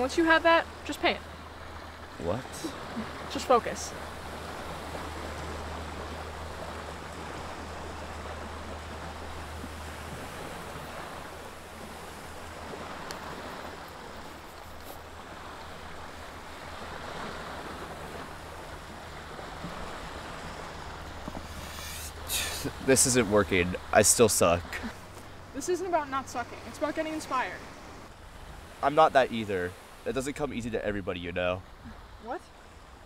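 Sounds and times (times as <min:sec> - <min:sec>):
waves washing on shore: 0:00.0 - 0:33.0.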